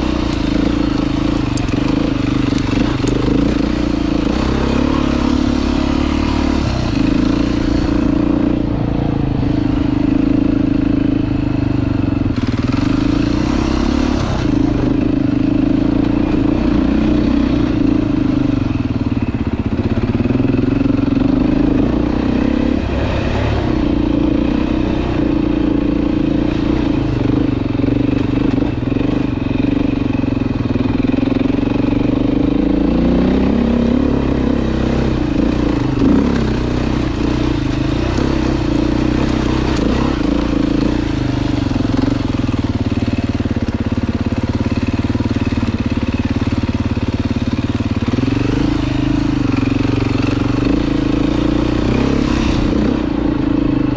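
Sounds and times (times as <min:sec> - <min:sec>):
dirt bike engine: 0:00.0 - 0:53.9.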